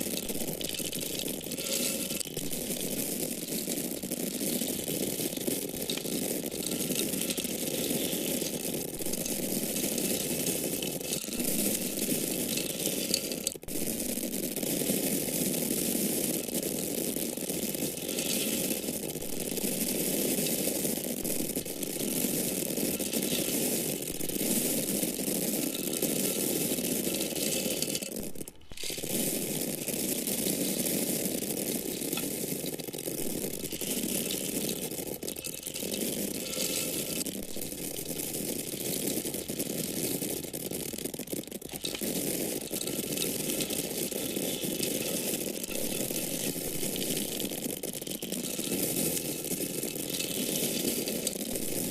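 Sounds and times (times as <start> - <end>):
grains falling in a stream: 0.0 - 51.9.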